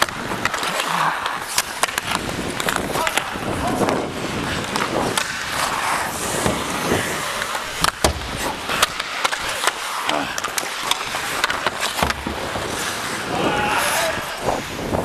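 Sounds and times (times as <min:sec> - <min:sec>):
skate blades scraping ice: 0:00.0 - 0:15.0
sticks and puck clacking: 0:00.0 - 0:15.0.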